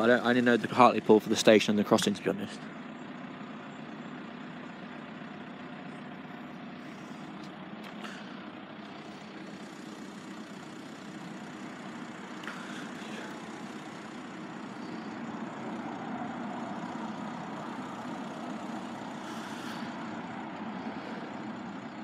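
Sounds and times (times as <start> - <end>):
vehicle engines idling: 0.0 - 22.0.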